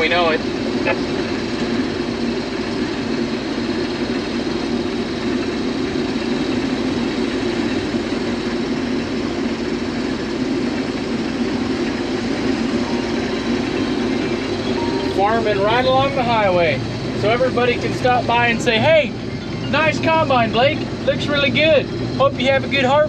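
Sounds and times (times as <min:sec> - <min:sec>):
combine harvester drone: 0:00.0 - 0:23.0.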